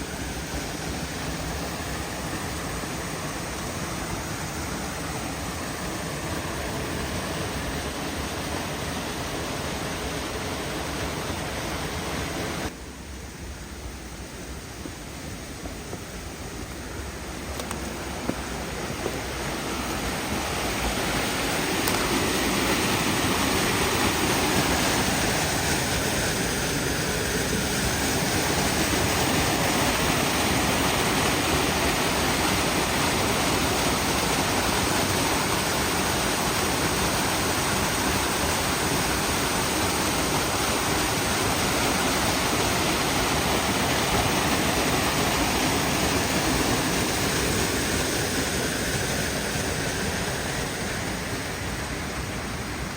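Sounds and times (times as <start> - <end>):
waterfall rushing: 0.0 - 12.7, 14.6 - 52.9.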